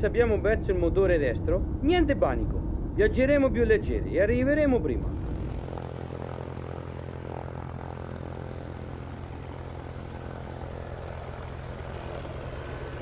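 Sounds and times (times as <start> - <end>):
turboprop airliner propeller drone: 0.0 - 13.0.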